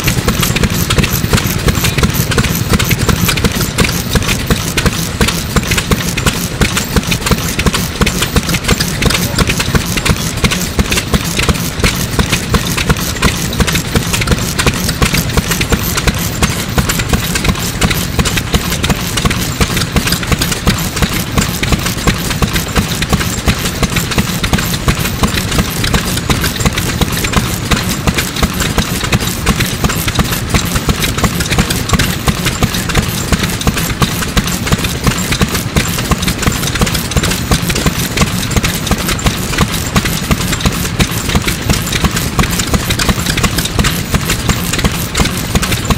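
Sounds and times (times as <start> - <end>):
stationary engine running: 0.0 - 45.9.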